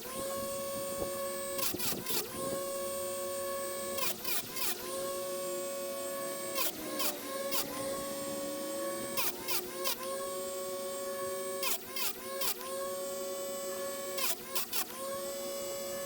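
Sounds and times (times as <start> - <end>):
grinding wheel motor hum: 0.0 - 16.0.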